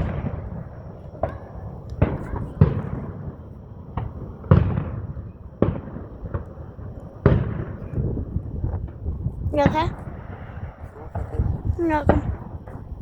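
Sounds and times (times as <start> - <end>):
fireworks bangs with rumbling echo: 0.0 - 13.0.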